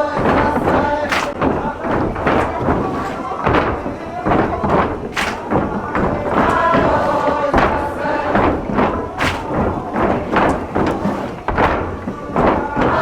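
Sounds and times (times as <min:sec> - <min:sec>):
crowd singing and chanting: 0:00.0 - 0:13.0
wooden clogs stamping on wooden floor: 0:00.0 - 0:13.0.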